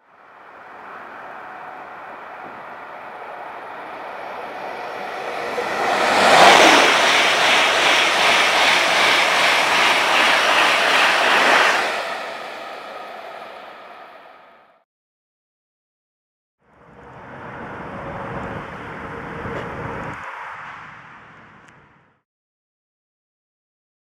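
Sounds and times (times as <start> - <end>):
high-speed train rushing past: 0.0 - 14.8, 16.7 - 21.8.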